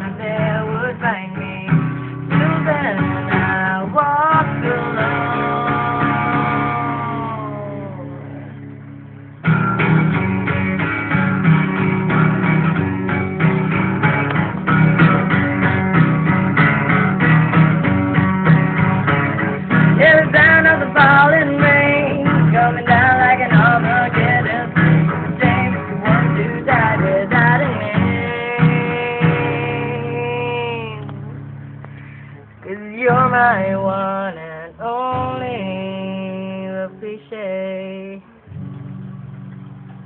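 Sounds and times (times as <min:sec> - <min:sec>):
guitar music: 0:00.0 - 0:40.0.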